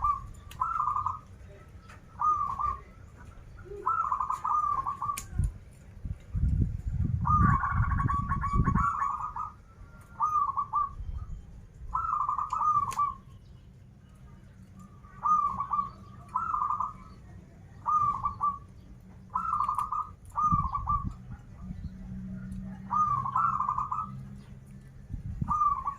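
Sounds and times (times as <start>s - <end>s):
dove cooing: 0.0s - 5.5s, 7.1s - 11.3s, 11.9s - 13.2s, 14.8s - 24.6s, 25.4s - 25.9s
low rumbling noise: 0.0s - 25.9s.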